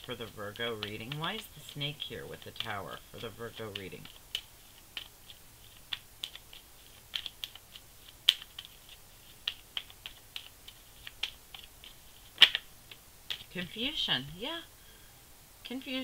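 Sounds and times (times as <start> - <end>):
cards being shuffled: 0.0 - 13.8.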